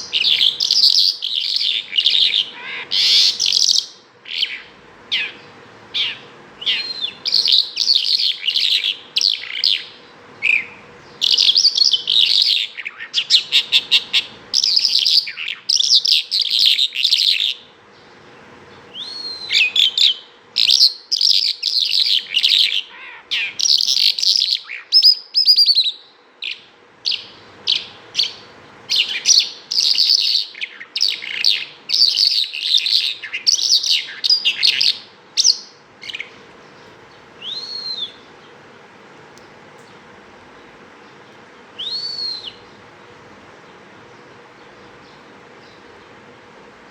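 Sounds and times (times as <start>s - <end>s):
lark singing: 0.0s - 38.6s, 40.6s - 43.1s.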